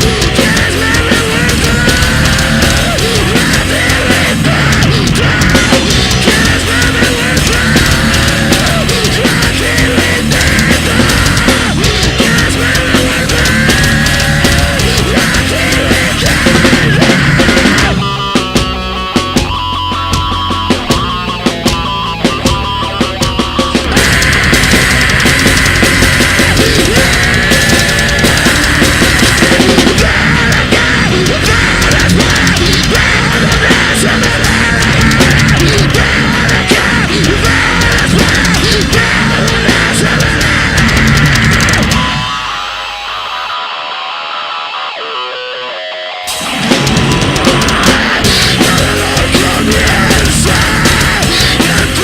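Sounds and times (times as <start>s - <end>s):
drums hitting: 0.0s - 43.6s, 46.2s - 52.0s
heavy metal music: 0.0s - 52.0s.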